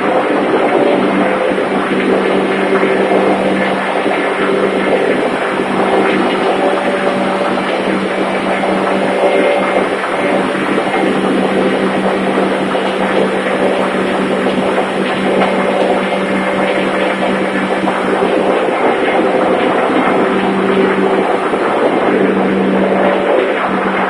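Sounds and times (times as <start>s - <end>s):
engine room machinery din: 0.0s - 24.0s.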